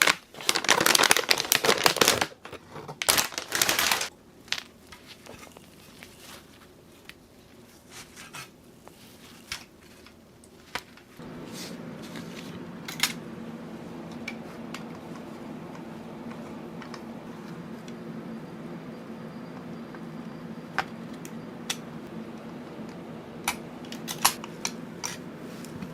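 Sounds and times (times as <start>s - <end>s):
steady low hum: 4.1s - 25.9s.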